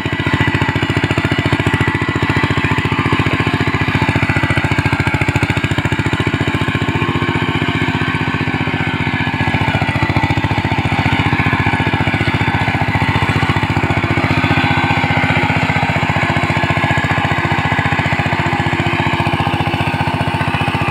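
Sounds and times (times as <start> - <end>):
diesel engine running under load: 0.0 - 20.9
rotor churning through mud: 0.0 - 20.9.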